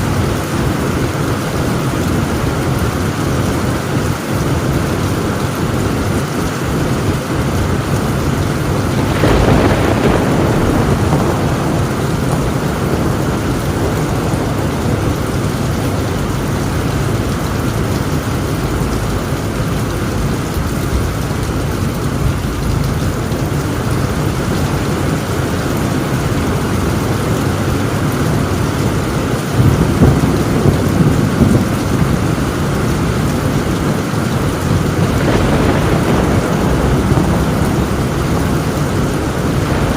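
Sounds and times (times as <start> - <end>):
heavy rain on a tin roof: 0.0 - 39.9
thunder rumbling: 0.0 - 39.9.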